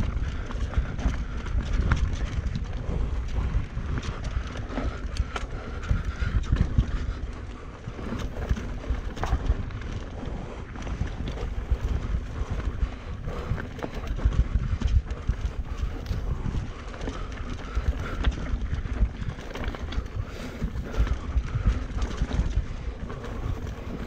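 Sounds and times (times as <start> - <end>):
bike rattling over ground: 0.0 - 24.0
wind buffeting microphone: 0.0 - 24.0.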